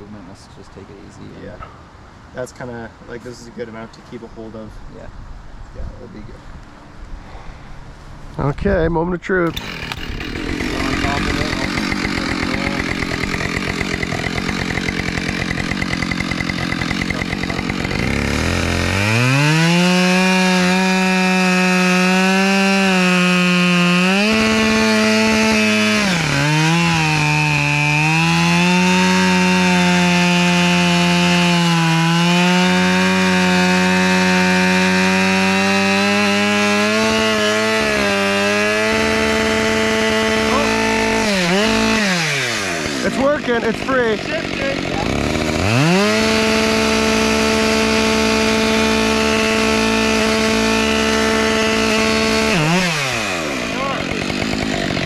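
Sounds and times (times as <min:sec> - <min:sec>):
chainsaw cutting wood: 0:09.4 - 0:55.0.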